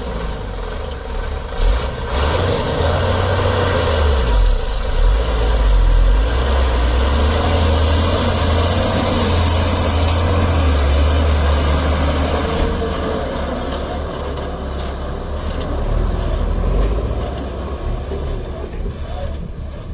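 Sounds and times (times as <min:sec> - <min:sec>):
heavy diesel engine rumbling: 0:00.0 - 0:19.9.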